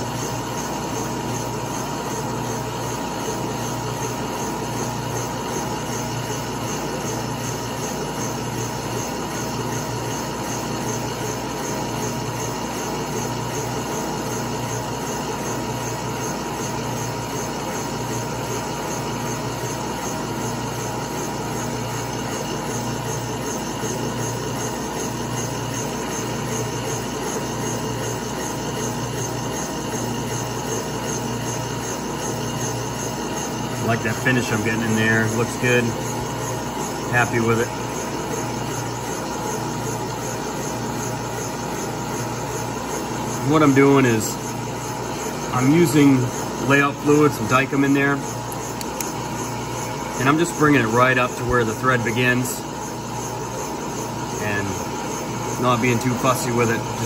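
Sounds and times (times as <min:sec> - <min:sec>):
milling machine boring: 0:00.0 - 0:57.0.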